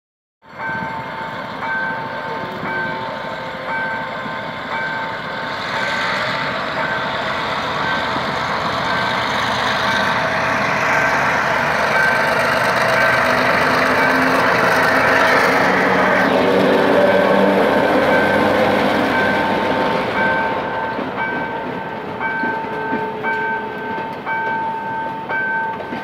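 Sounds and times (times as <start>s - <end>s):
diesel locomotive and train running: 0.4s - 26.0s.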